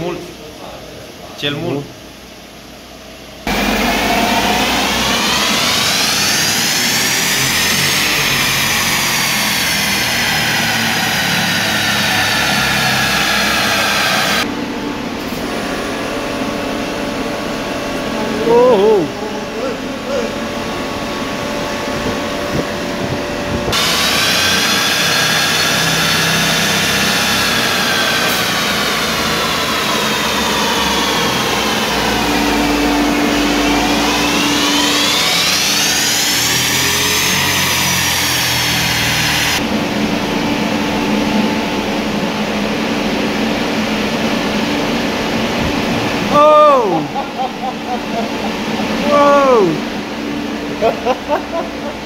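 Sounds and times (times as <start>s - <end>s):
engine and rollers whining under load: 2.1s - 52.0s
low hum: 2.1s - 52.0s.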